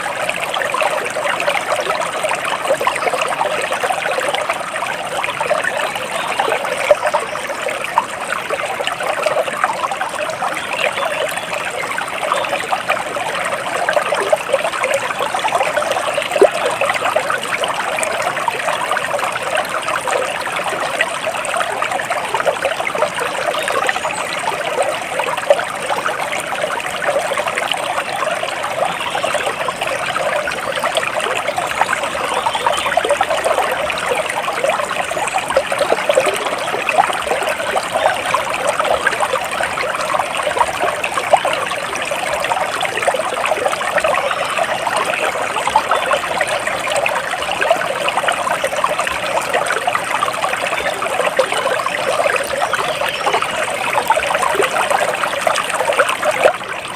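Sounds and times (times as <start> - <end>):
stream trickling and babbling: 0.0 - 56.9.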